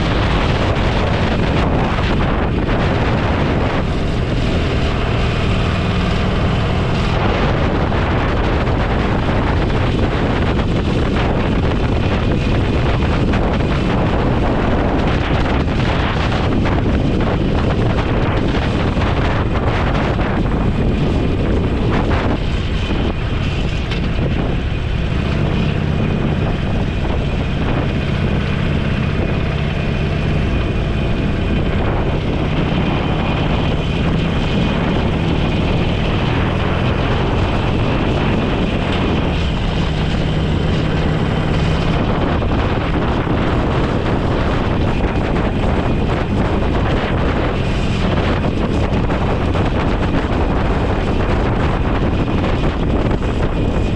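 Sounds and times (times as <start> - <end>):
motorcycle engine hum: 0.0 - 53.9
wind rush over microphone: 0.0 - 53.9.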